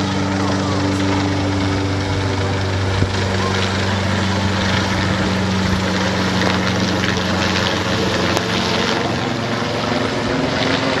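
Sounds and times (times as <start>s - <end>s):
helicopter rotors and engines: 0.0s - 11.0s.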